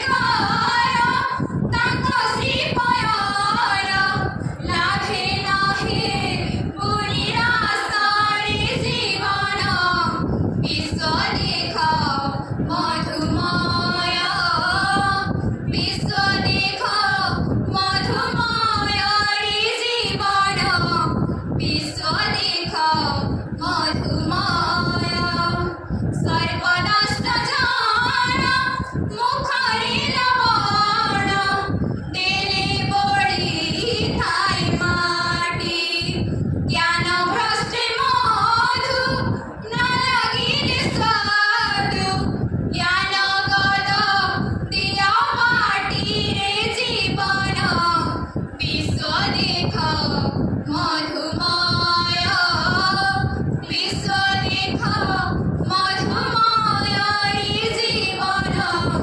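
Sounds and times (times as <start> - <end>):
girl singing unaccompanied: 0.0 - 59.0.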